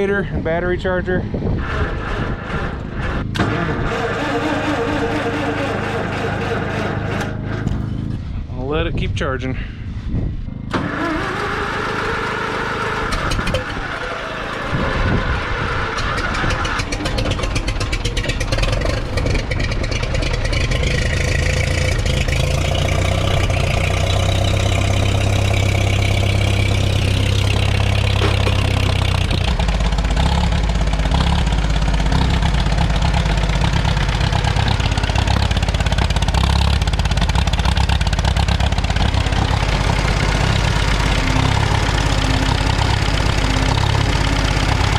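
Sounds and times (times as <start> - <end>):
tractor engine cranking and idling: 0.0 - 44.9.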